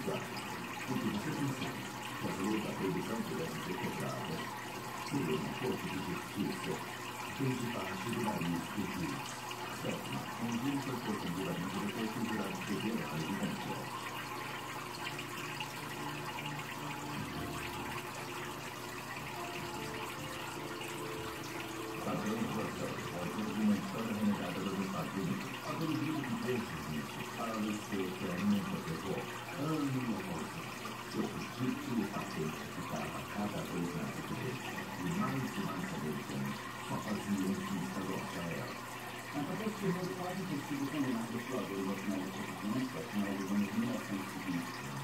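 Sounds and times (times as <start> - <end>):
water running and splashing: 0.0 - 45.0.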